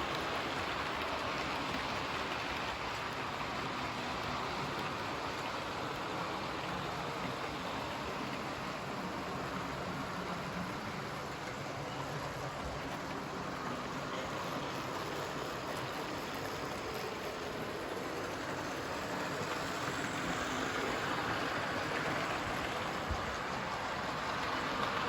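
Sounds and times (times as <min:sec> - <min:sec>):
model train wheels whirring: 0:00.0 - 0:25.0.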